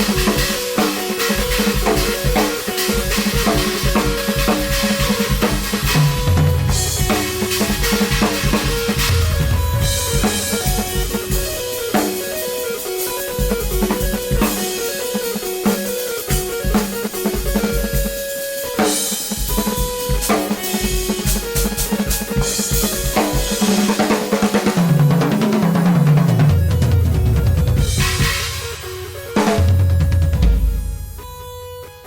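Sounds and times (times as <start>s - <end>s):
drum kit playing: 0.0s - 32.0s.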